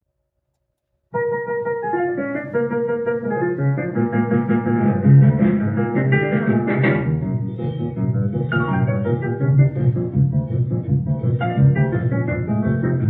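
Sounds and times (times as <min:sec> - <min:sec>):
jazz band playing blues: 0:02.0 - 0:13.0.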